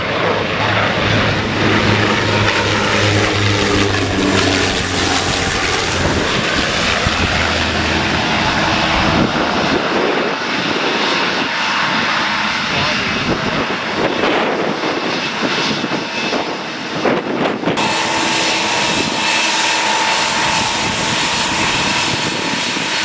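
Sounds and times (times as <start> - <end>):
rushing engine noise: 0.0 - 23.0
turboprop aircraft droning: 0.0 - 23.0.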